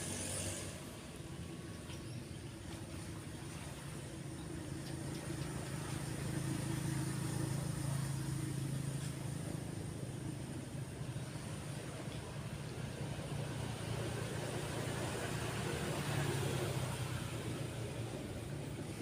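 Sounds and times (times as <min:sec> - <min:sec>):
vehicle engine passing by: 0:00.0 - 0:01.3, 0:05.0 - 0:19.0
calm waves on beach: 0:00.0 - 0:19.0.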